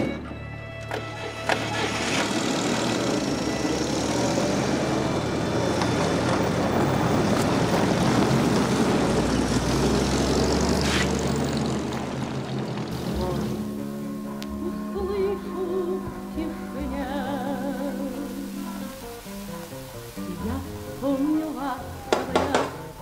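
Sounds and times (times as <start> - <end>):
car engine driving off: 0.0 - 23.0.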